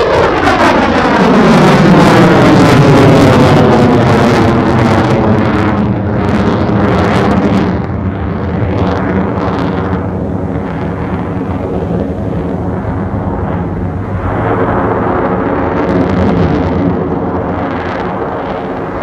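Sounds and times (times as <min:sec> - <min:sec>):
fighter jet roar: 0:00.0 - 0:19.0
low jet rumble: 0:00.0 - 0:19.0.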